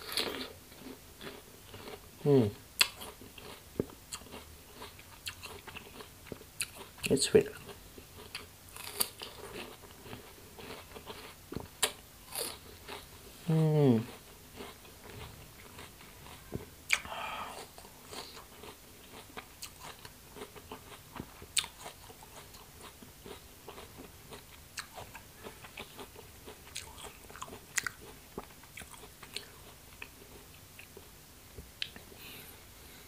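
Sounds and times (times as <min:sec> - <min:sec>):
crunchy apple chewing: 0:00.0 - 0:13.2, 0:14.0 - 0:31.0.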